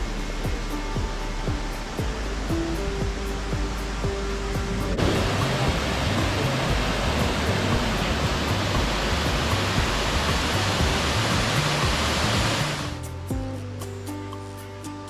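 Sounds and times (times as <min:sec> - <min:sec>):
waterfall rushing: 0:00.0 - 0:13.9
faint background music: 0:00.0 - 0:15.0.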